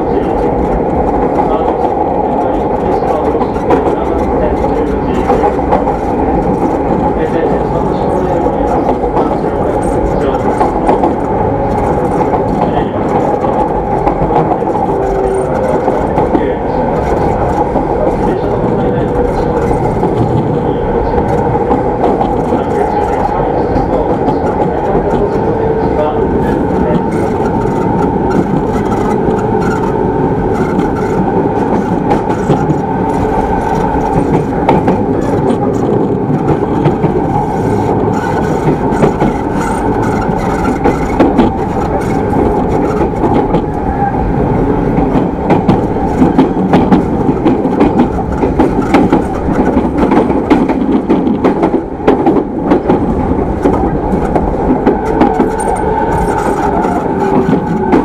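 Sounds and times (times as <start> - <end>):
track clicks and clatters: 0.0 - 58.0
train wheels rumbling on rail: 0.0 - 58.0.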